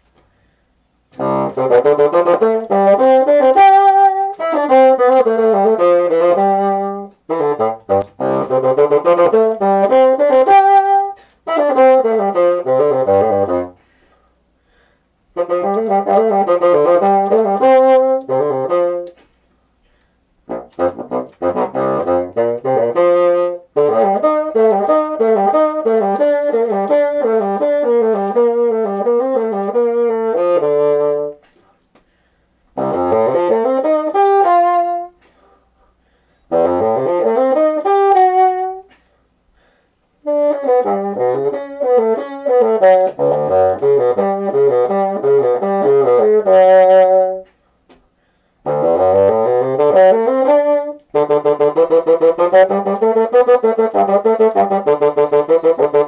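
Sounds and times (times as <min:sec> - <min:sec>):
solo bassoon melody: 0:01.1 - 0:14.2, 0:15.3 - 0:19.3, 0:20.4 - 0:31.5, 0:32.7 - 0:39.0, 0:39.6 - 0:47.6, 0:48.6 - 0:56.0.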